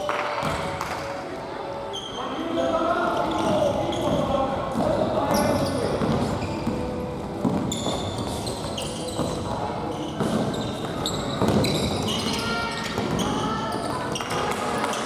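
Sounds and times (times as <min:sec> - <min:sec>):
shoes squeaking on floor: 0:01.8 - 0:15.0.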